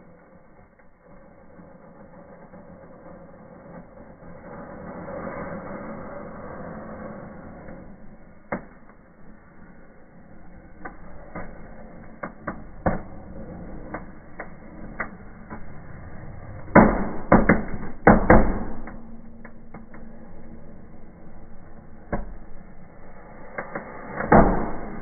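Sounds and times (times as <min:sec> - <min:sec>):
fireworks cracking and popping: 0:00.0 - 0:20.3.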